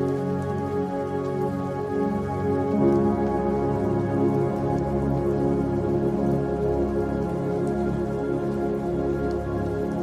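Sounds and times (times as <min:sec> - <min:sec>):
meditation music with held chords: 0:00.0 - 0:10.0
rain patter: 0:00.0 - 0:10.0.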